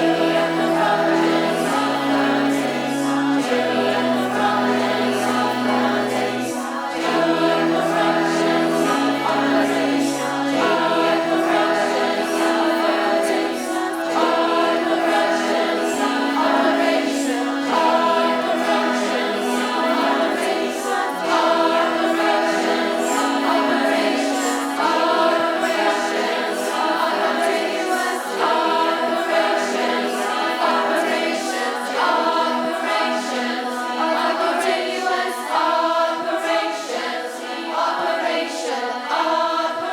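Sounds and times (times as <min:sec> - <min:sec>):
choir singing held chords: 0:00.0 - 0:39.9.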